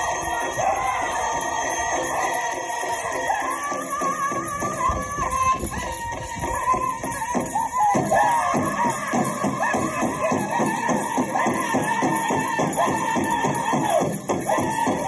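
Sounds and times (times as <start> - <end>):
people singing high wavering voices: 0.0 - 15.0
quick steady drumbeat: 1.1 - 15.0.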